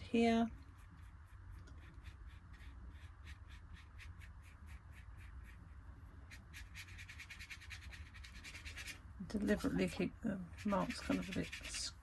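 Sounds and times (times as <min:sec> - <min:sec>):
pen scratching on paper: 0:00.7 - 0:05.7, 0:06.3 - 0:12.0.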